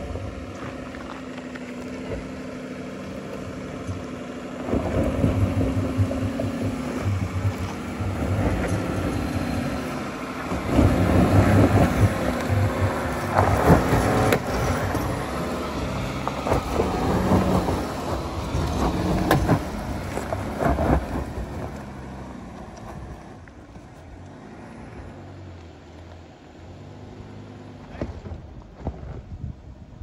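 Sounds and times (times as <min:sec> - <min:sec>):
car engine working hard: 0:00.0 - 0:30.0.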